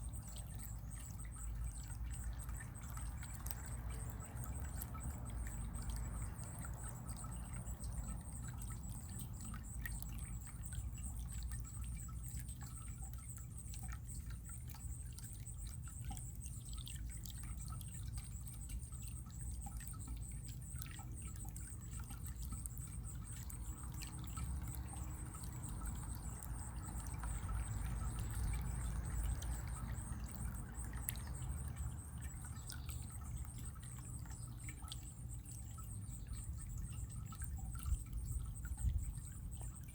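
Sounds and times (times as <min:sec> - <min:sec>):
water drips and splashes: 0:00.0 - 0:39.9
water trickling: 0:00.0 - 0:39.9.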